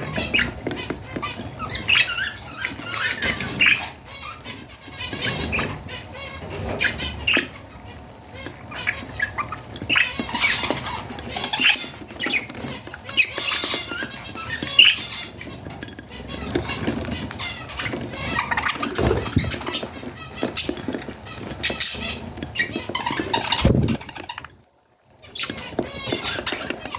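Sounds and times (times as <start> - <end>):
baby budgerigars chirping: 0.0 - 24.6, 25.2 - 26.9.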